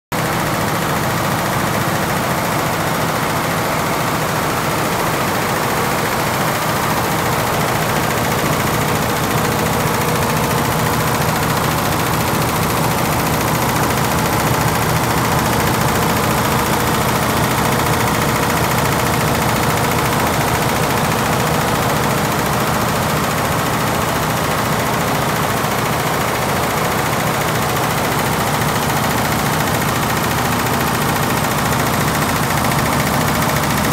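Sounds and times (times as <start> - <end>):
embroidery machine clatter: 0.2 - 33.9.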